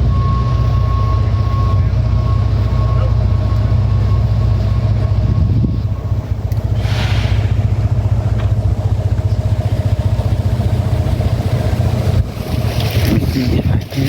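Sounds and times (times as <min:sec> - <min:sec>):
engine running with low throb: 0:00.0 - 0:14.0.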